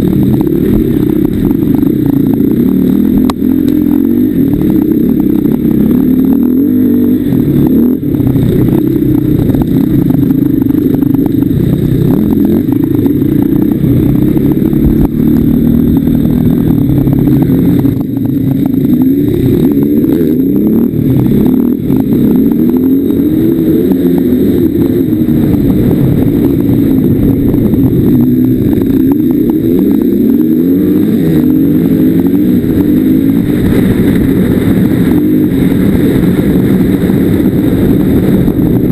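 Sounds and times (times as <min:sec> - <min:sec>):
off-road motorcycle engine revving: 0:00.0 - 0:38.9.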